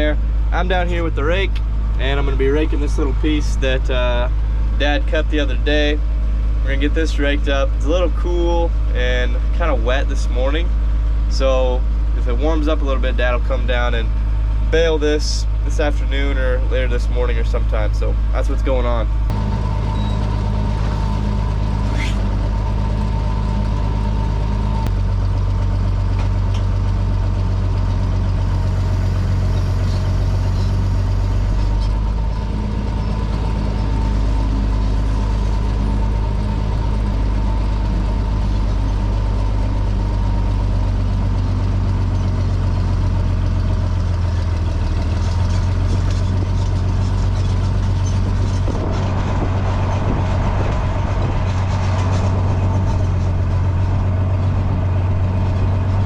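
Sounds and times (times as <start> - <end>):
tractor engine droning with whine: 0.0 - 56.0.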